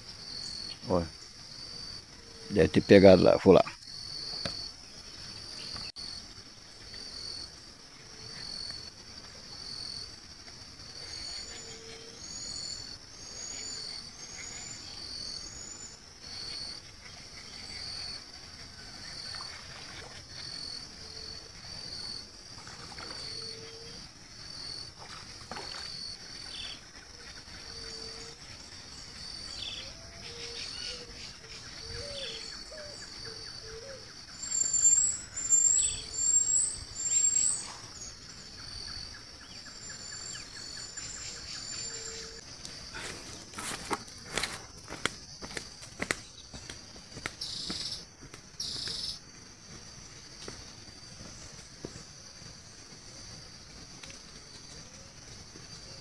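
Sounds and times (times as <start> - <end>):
pulsing insect chirp: 0.0 - 56.0.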